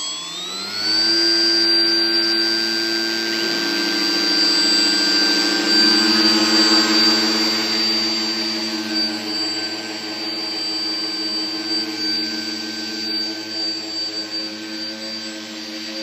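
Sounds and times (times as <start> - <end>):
hovercraft engine and fan whine: 0.0 - 16.0.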